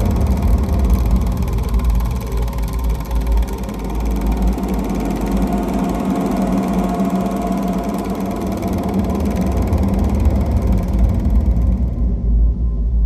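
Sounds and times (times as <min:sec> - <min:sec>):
film projector running: 0:00.0 - 0:12.0.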